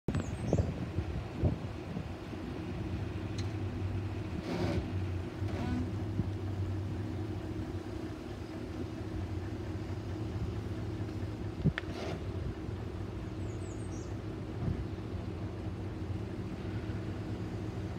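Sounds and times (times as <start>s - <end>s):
truck engine running: 0.1s - 17.9s.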